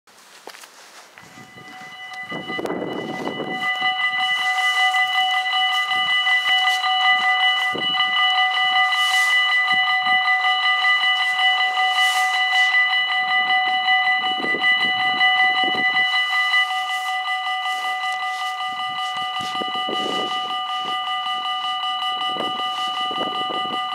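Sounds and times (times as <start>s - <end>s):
level crossing warning bells ringing: 1.0s - 23.9s.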